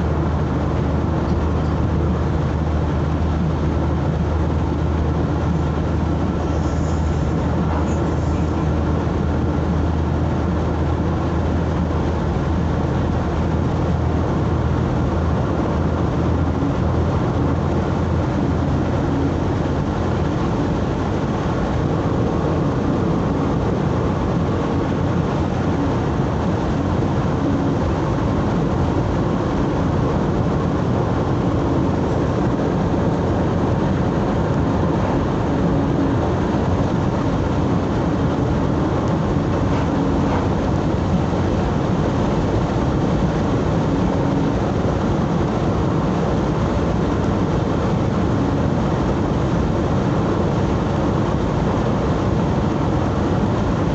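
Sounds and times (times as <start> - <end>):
vehicle engine and tyre noise: 0.0 - 53.9.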